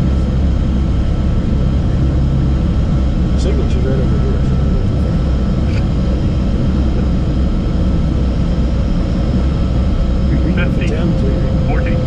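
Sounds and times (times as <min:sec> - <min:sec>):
faint steady whine: 0:00.0 - 0:12.0
jet engines and airflow rumble: 0:00.0 - 0:12.0.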